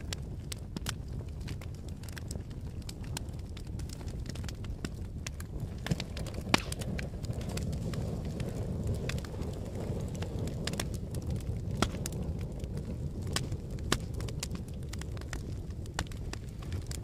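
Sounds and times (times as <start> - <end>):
fire crackling: 0.0 - 17.0
fire pops and snaps: 0.0 - 17.0
flames rumbling: 0.0 - 17.0.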